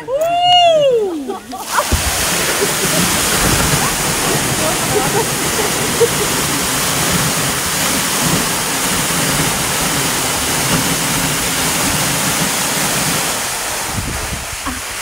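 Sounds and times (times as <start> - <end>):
waterfall rushing: 0.4 - 15.0.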